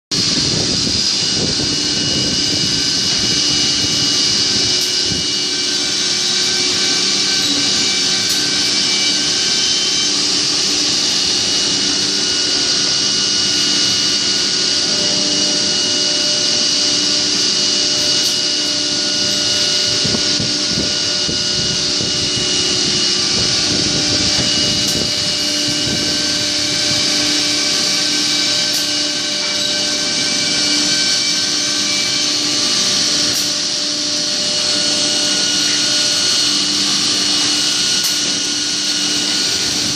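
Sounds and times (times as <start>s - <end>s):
router spindle whine: 0.1s - 39.9s
wood milling cutting noise: 0.1s - 39.9s.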